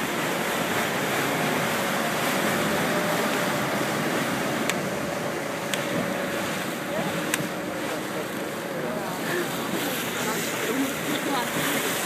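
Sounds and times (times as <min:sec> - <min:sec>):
boat wake rushing: 0:00.0 - 0:12.0.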